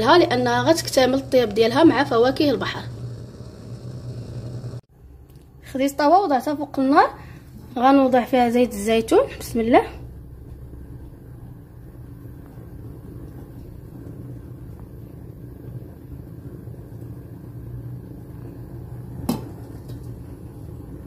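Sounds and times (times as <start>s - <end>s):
gas burner rumbling: 0.0s - 21.0s.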